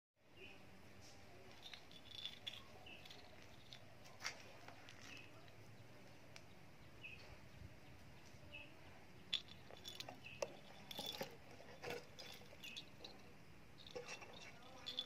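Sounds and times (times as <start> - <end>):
small bird chirping: 1.6 - 4.1, 4.7 - 15.0.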